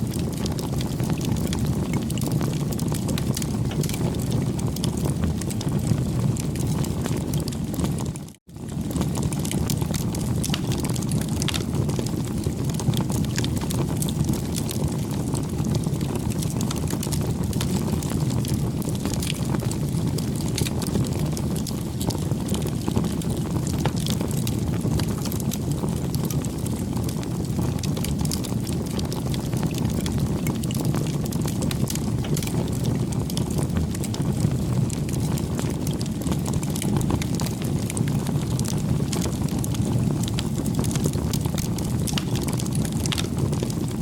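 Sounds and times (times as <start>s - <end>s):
campfire crackling: 0.0s - 44.0s.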